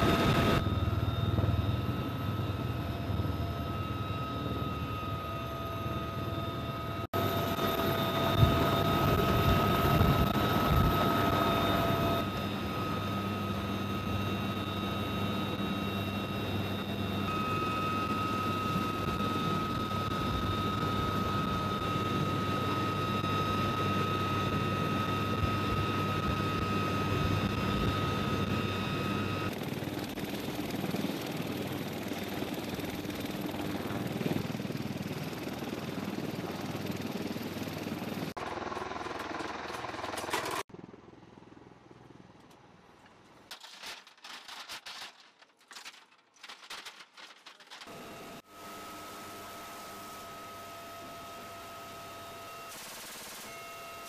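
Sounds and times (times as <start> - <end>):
helicopter turbine whine: 0.0 - 42.9, 47.9 - 54.0
helicopter rotor and engine noise: 0.0 - 54.0.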